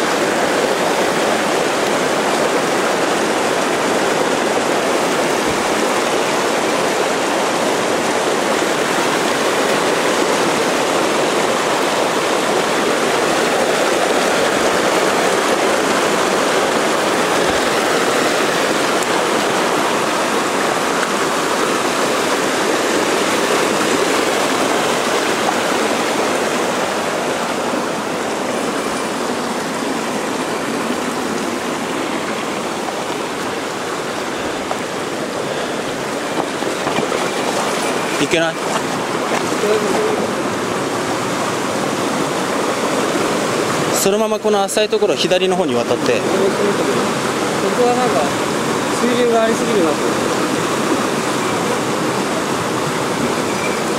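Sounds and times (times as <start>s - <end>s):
stream rushing over rocks: 0.0s - 53.9s.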